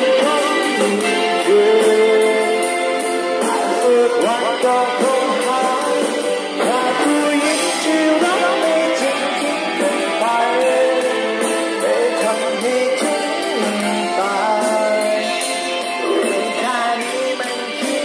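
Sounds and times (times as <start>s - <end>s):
backing track music: 0.0s - 18.0s
man singing into microphone: 0.0s - 18.0s.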